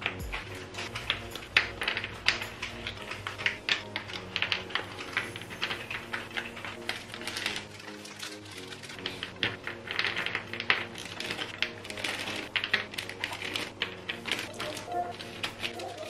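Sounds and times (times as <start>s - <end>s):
wax melts clicking onto wooden board: 0.0s - 16.0s.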